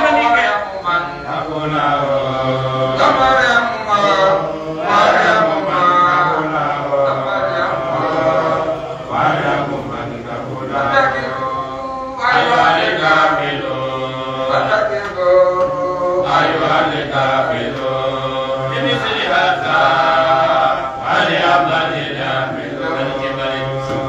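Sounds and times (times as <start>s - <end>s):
man chanting through a microphone: 0.0s - 24.0s.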